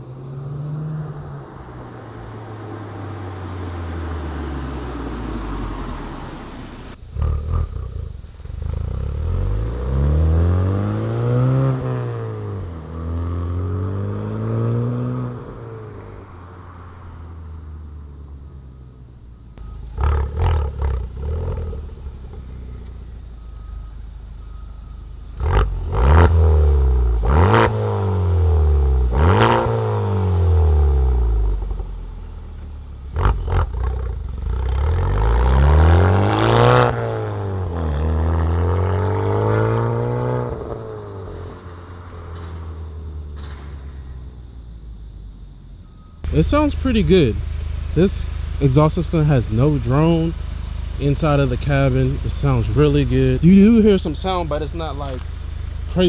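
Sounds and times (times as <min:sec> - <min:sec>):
car engine revving: 0:00.0 - 0:44.2, 0:46.2 - 0:56.0
exhaust cracks: 0:00.0 - 0:45.5, 0:46.2 - 0:56.0.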